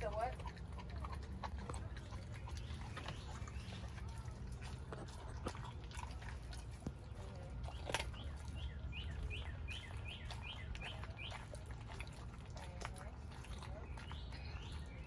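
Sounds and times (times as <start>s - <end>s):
dog chewing and crunching: 0.0s - 15.0s.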